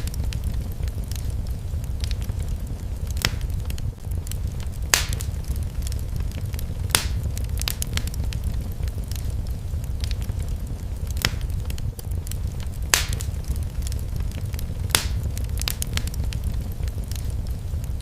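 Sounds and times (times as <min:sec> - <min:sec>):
flames rushing: 0:00.0 - 0:18.0
loud fire pops: 0:00.0 - 0:18.0
wood fire crackling: 0:00.0 - 0:18.0.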